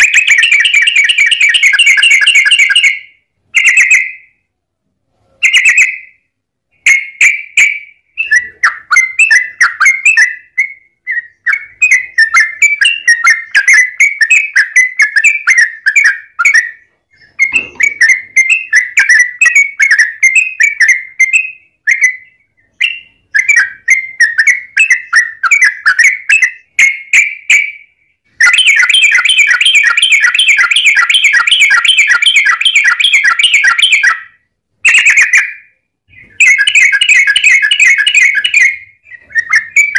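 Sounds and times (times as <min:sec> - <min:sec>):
bird chattering song: 0:00.0 - 0:04.5, 0:05.4 - 0:39.9.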